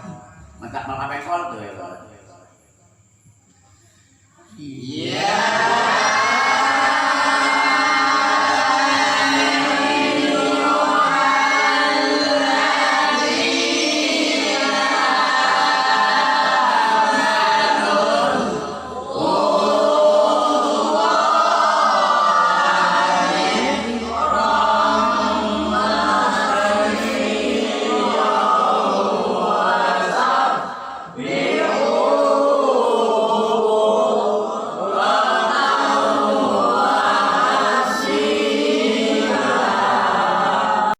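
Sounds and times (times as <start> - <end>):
person chanting recitation: 3.6 - 40.9.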